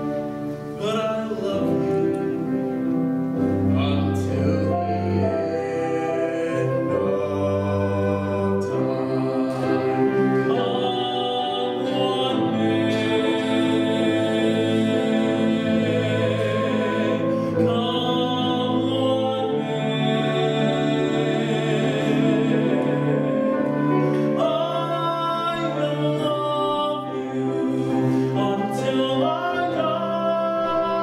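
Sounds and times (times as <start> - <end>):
instrumental accompaniment: 0.0 - 31.0
man singing operatic ballad: 0.6 - 31.0.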